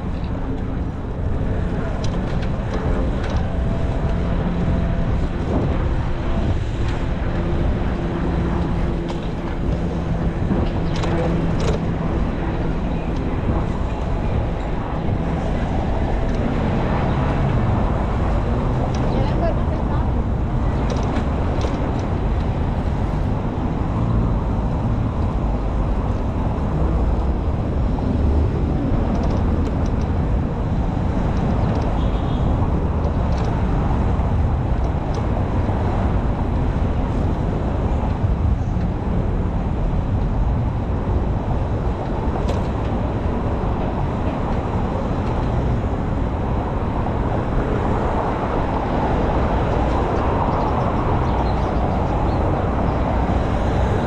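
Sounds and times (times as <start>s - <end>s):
bicycle rolling road noise: 0.0s - 54.0s
car traffic: 0.0s - 54.0s
wind noise: 0.0s - 54.0s.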